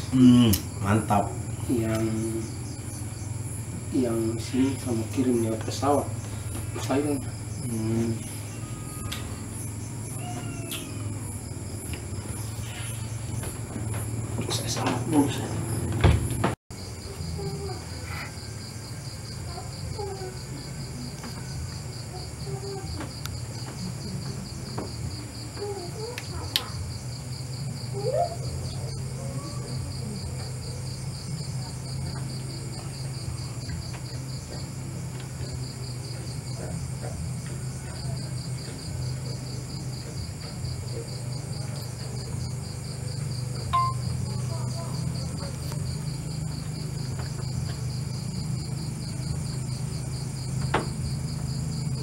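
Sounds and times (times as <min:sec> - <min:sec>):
crickets trilling: 0:00.0 - 0:52.0
low steady hum: 0:00.0 - 0:52.0.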